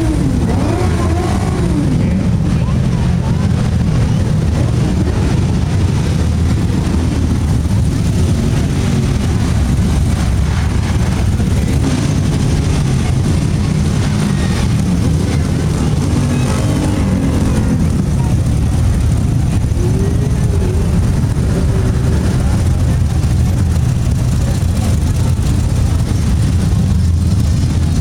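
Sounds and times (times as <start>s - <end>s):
car engines running at low speed: 0.0s - 28.0s.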